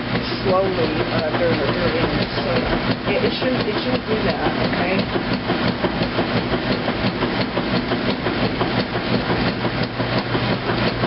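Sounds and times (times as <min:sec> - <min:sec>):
washing machine motor hum: 0:00.0 - 0:11.0
knocks and clacks from tub: 0:00.1 - 0:11.0.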